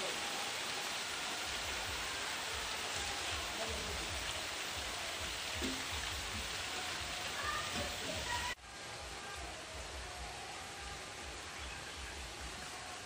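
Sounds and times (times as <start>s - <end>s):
rain falling on foliage: 0.0s - 13.0s.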